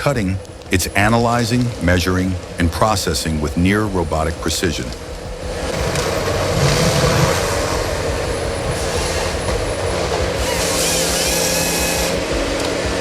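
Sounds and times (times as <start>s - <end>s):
harvester engine hum: 0.0s - 13.0s
loud hiss: 0.0s - 13.0s.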